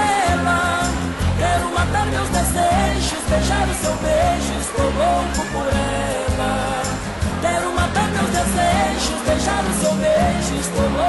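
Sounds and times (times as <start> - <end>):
instrumental country music: 0.0 - 11.0.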